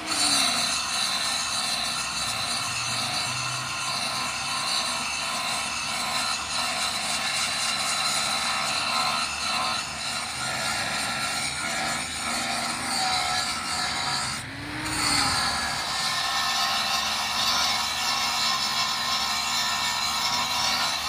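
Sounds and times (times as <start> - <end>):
angle grinder grinding metal: 0.0 - 21.0.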